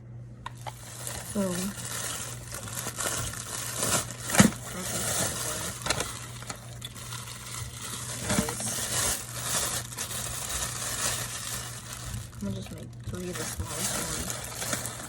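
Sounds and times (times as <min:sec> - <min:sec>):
low steady hum: 0:00.0 - 0:15.0
rustling and crinkling: 0:00.5 - 0:15.0.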